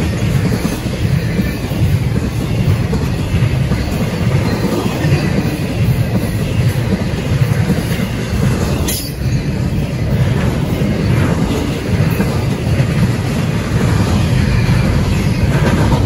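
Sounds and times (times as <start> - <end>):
freight train rumbling and rattling: 0.0 - 16.0.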